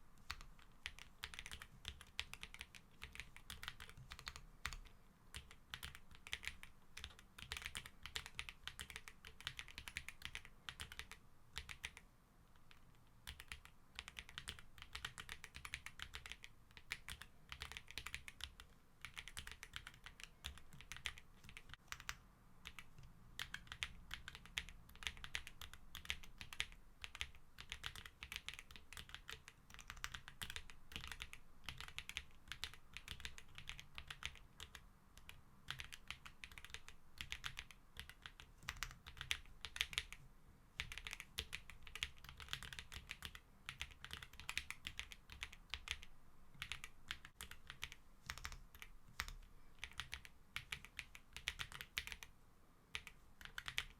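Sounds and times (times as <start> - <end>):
mechanical keyboard typing: 0.2 - 12.0, 12.7 - 40.2, 40.8 - 52.3, 52.9 - 53.9.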